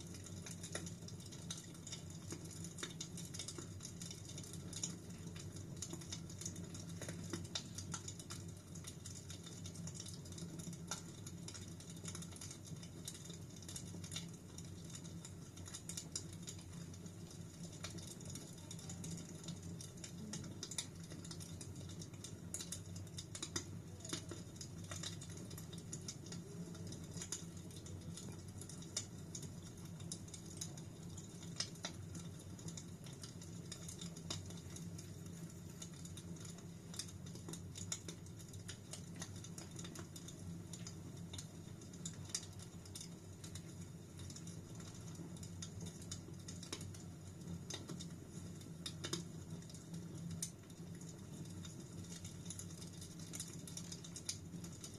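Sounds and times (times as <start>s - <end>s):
fire crackling in a fireplace: 0.0s - 54.9s.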